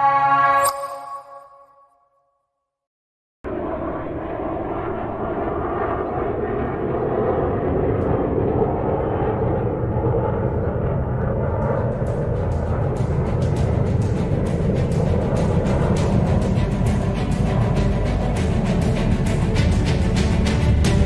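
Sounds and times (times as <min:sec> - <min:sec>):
jet airliner engines rumbling: 0:03.5 - 0:21.0.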